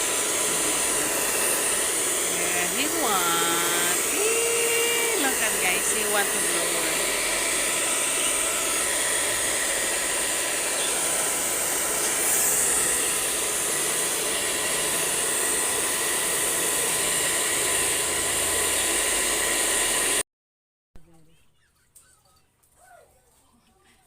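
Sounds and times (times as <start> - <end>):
pet blower dryer running: 0.0 - 20.2.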